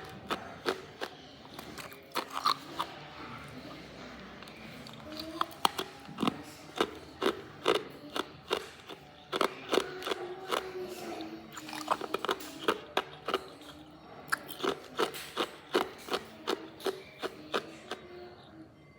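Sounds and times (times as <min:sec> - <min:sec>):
ice crunching between teeth: 0:00.0 - 0:03.0, 0:04.4 - 0:10.7, 0:11.4 - 0:18.1.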